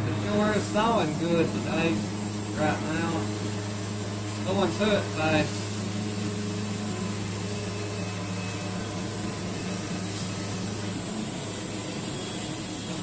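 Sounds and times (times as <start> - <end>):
band sawmill cutting log: 0.0 - 13.0.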